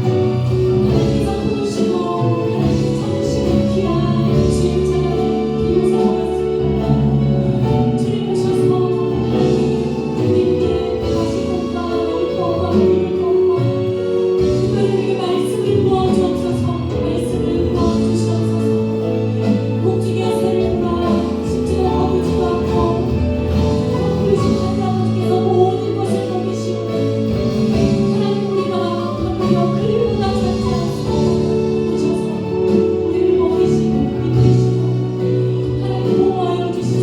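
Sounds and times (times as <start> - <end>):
band accompaniment: 0.0 - 37.0.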